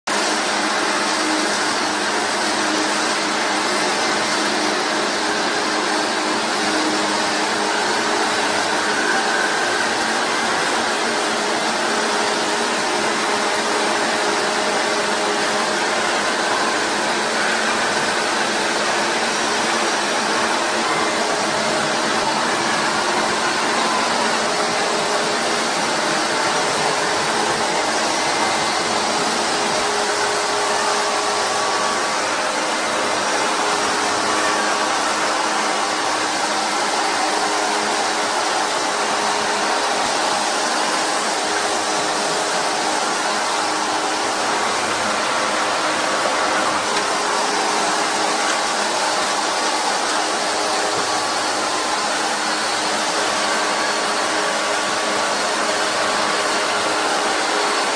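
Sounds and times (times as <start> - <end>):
machinery whirring: 0.1 - 57.9.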